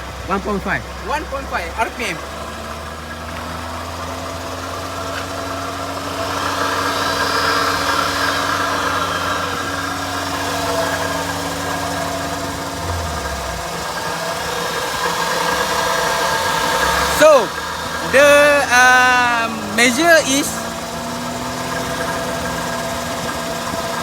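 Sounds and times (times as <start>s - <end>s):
car engine running steadily: 0.0s - 24.0s.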